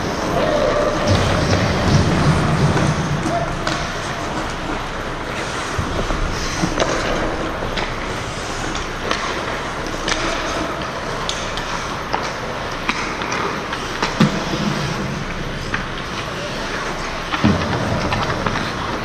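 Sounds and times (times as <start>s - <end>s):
skates scraping on ice: 0.0s - 19.0s
sticks and puck clacking: 0.0s - 19.0s.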